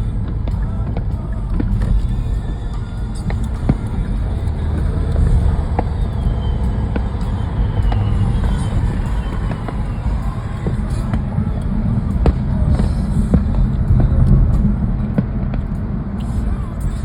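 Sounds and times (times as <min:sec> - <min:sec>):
car rumbling on road: 0:00.0 - 0:17.0
distant fireworks popping: 0:00.0 - 0:17.0.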